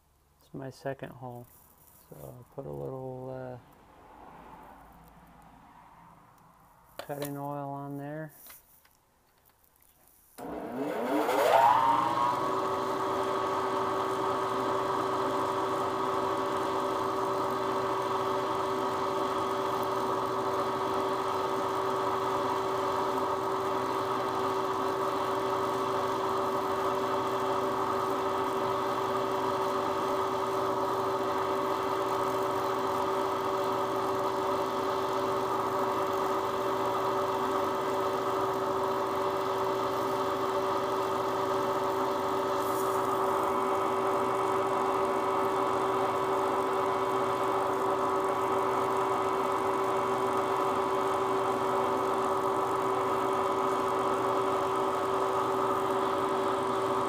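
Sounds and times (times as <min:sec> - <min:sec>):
milling machine whine: 0:10.4 - 0:57.0.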